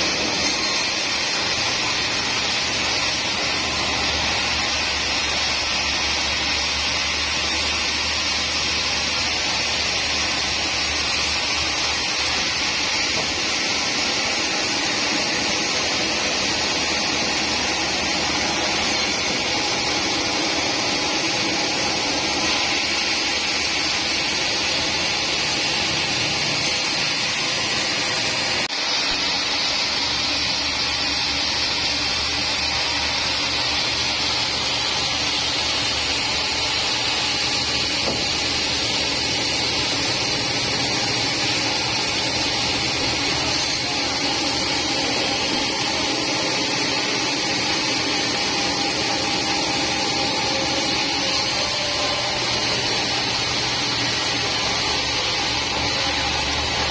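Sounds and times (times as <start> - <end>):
band saw cutting log: 0.0 - 56.9.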